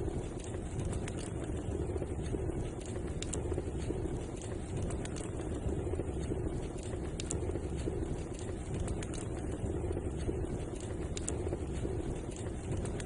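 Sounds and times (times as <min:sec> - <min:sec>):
fire burning with crackles: 0:00.0 - 0:13.0.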